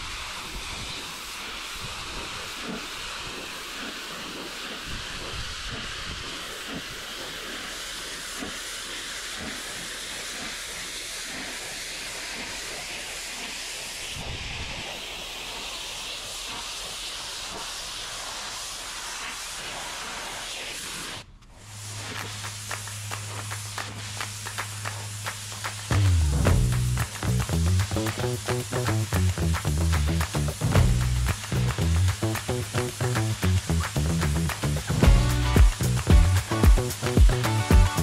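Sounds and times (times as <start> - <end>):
pressure washer spraying wood: 0.0 - 38.0.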